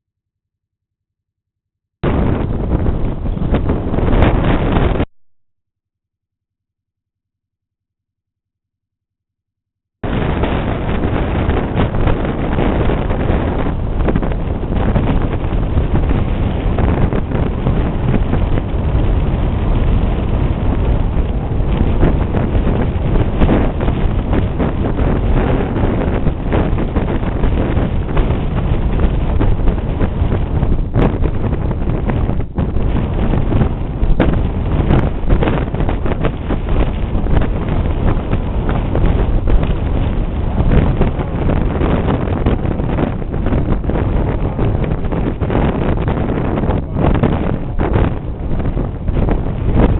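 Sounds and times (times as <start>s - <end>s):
wind buffeting microphone: 2.0s - 5.1s, 10.0s - 49.9s.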